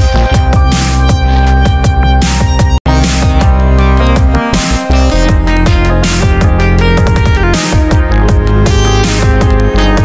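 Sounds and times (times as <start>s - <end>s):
electronic dubstep music: 0.0s - 10.0s.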